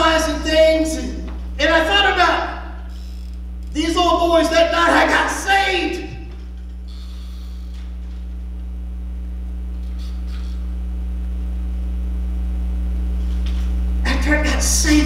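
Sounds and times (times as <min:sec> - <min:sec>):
low electrical mains hum: 0:00.0 - 0:15.0.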